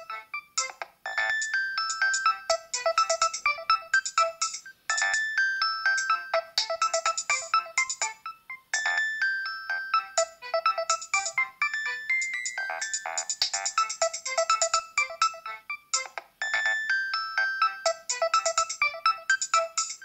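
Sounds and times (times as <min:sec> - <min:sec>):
electronic phone ringtone melody: 0:00.0 - 0:20.0.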